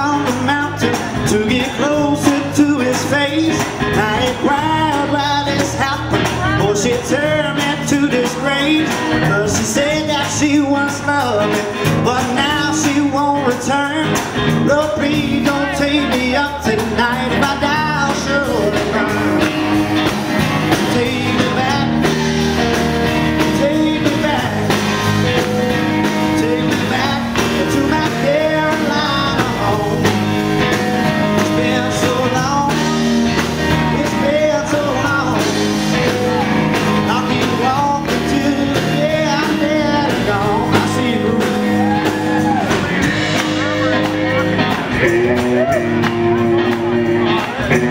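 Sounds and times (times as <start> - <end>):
drums: 0.0 - 47.9
electric bass: 0.0 - 47.9
electric guitars: 0.0 - 47.9.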